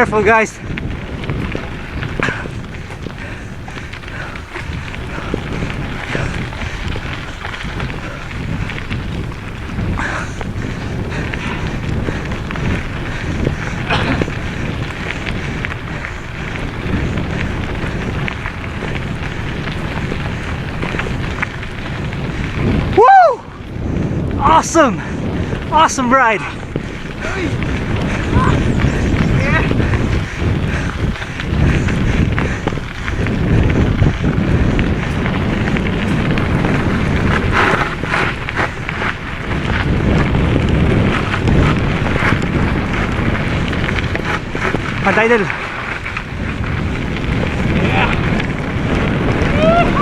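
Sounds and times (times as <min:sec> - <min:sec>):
bike tyres clicking and rattling: 0:00.0 - 0:50.0
wind rushing over microphone: 0:00.0 - 0:50.0.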